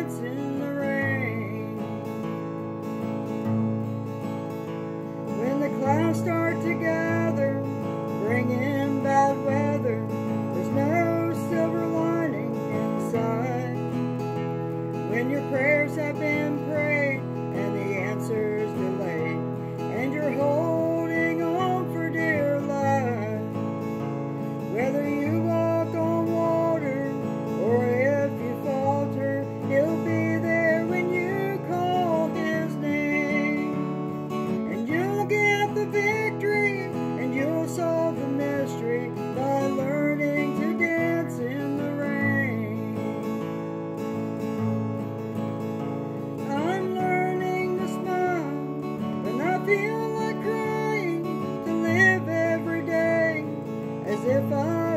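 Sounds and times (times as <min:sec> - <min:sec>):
woman singing: 0:00.0 - 0:02.1, 0:05.3 - 0:23.6, 0:24.6 - 0:43.2, 0:46.4 - 0:54.9
acoustic guitar: 0:00.0 - 0:54.9.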